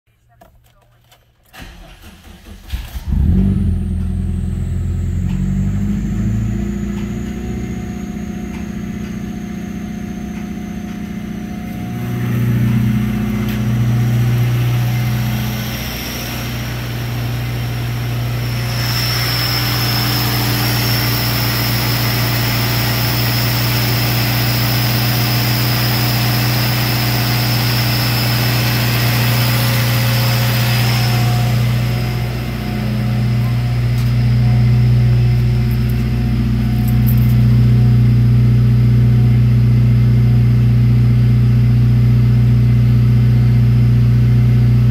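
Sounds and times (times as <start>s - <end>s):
car engine starting and idling: 0.2s - 44.9s.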